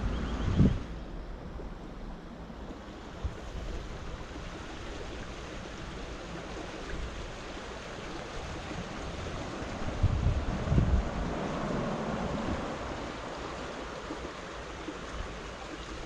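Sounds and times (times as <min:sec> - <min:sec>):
small stream running: 0:00.0 - 0:16.0
wind on microphone: 0:00.0 - 0:16.0.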